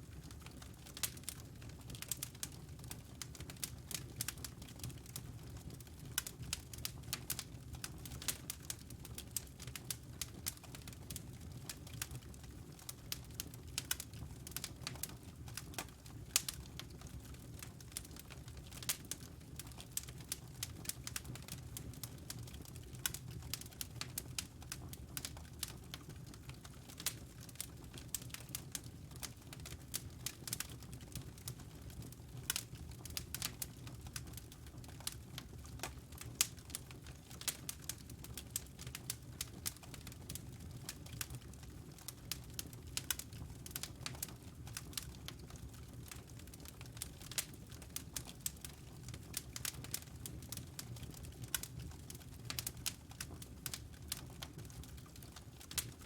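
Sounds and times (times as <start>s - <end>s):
logs crackling in fireplace: 0.0s - 56.0s
low rumble of flames: 0.0s - 56.0s.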